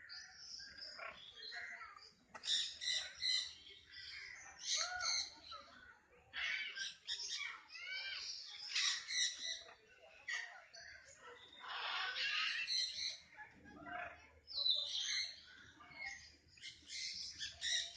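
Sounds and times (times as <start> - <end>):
parrots squawking and chattering: 0.6 - 5.7, 6.3 - 17.9.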